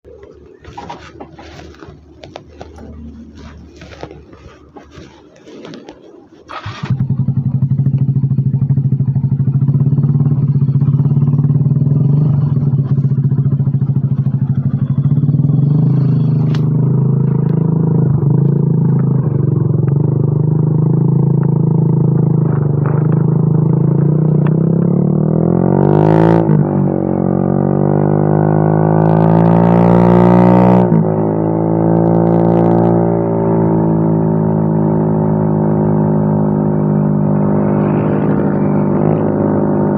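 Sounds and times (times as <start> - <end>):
scooter engine idling and revving: 0.1 - 39.9.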